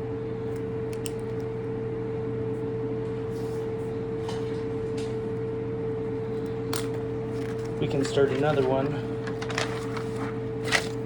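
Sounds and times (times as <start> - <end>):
machine hum with steady tone: 0.0 - 11.0.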